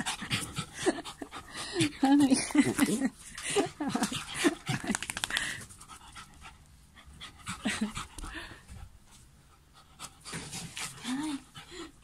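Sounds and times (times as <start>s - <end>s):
small dog panting: 0.0s - 2.7s, 3.4s - 12.0s.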